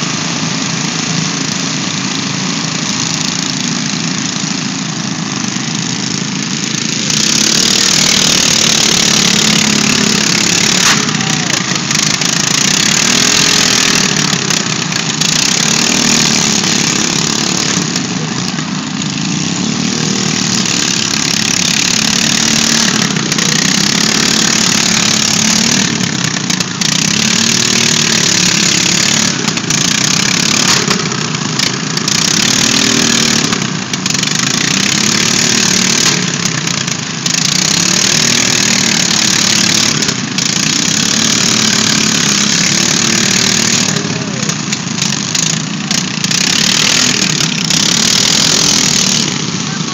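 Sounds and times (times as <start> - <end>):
lawn mower engines revving: 0.0 - 49.9
loud steady wash of noise: 0.0 - 49.9.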